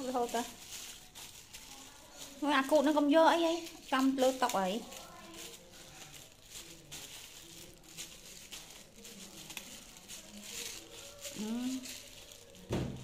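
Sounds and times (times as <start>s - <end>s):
noodles pattering into metal bowl: 0.0s - 13.0s
plastic bag crinkling: 0.0s - 13.0s.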